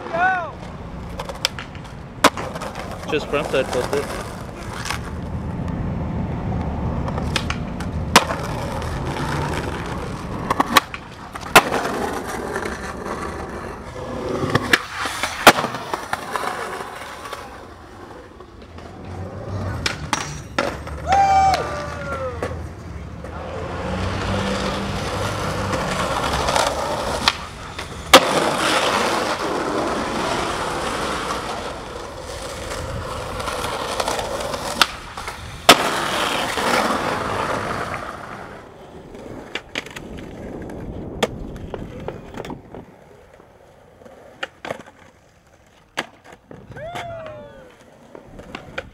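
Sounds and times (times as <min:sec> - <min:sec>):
skateboard popping and landing: 0:00.0 - 0:05.4, 0:06.6 - 0:48.9
skateboard wheels rolling on concrete: 0:00.0 - 0:48.9.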